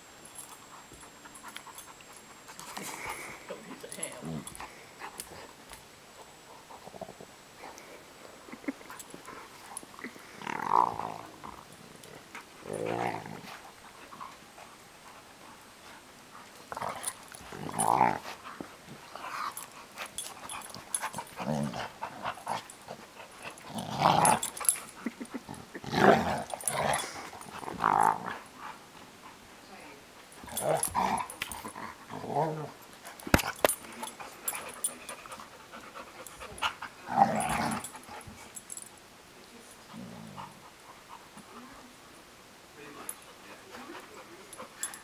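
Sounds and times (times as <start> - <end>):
dogs growling while play-fighting: 0.4 - 29.4, 30.3 - 38.9, 39.8 - 42.0, 43.1 - 45.0.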